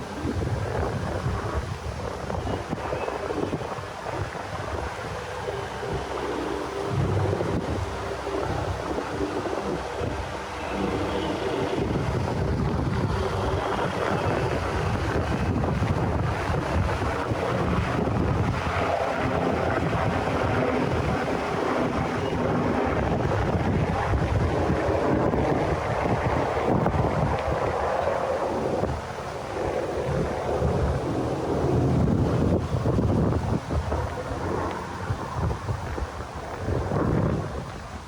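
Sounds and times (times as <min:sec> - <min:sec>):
wind blowing across microphone: 0:00.0 - 0:38.0.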